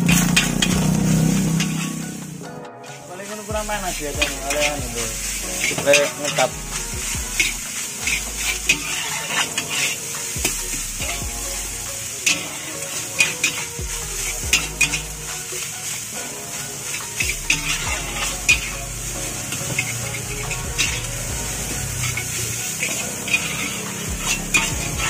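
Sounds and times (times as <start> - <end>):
metal spatula scraping a wok: 0.0 - 2.2, 2.8 - 25.0
frying sizzle: 0.0 - 25.0.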